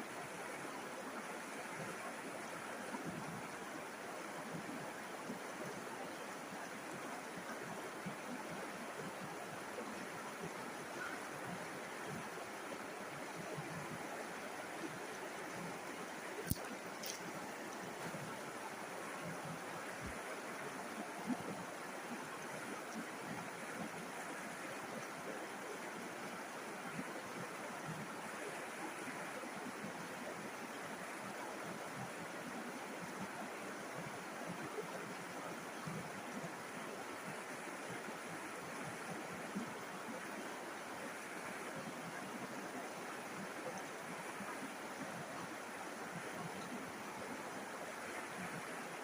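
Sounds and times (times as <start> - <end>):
river water rushing: 0.0 - 49.0.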